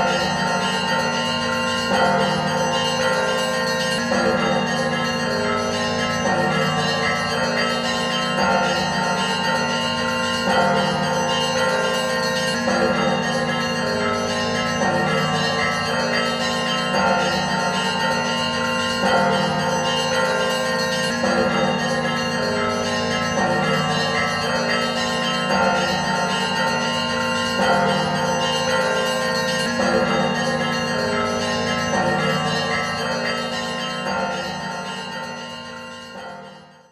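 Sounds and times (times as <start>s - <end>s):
church bells ringing: 0.0s - 36.9s.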